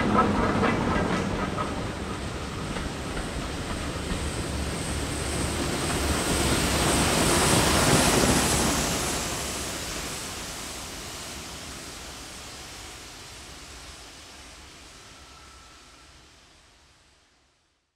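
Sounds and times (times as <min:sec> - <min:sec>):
steam train rushing: 0:00.0 - 0:17.0.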